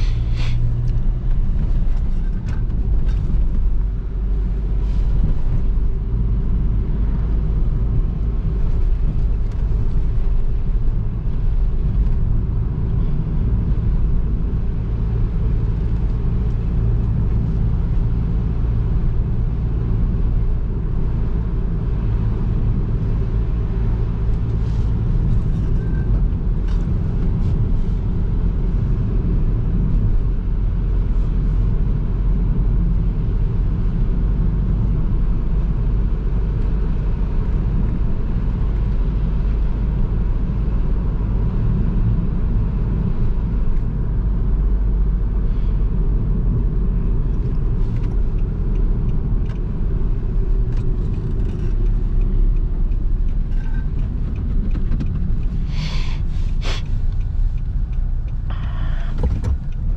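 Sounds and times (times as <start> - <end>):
diesel van engine running: 0.0 - 59.9
road noise: 0.0 - 59.9.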